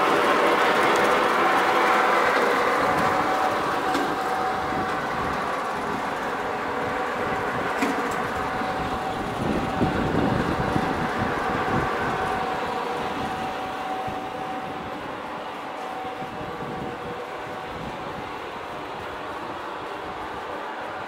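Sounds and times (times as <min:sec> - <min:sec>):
mechanical rumble: 0:00.0 - 0:21.0
motor whine: 0:00.0 - 0:21.0.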